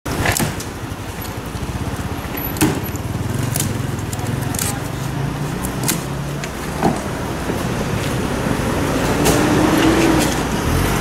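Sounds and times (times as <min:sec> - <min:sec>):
street traffic: 0:00.0 - 0:11.0
vehicle engine running: 0:00.8 - 0:11.0.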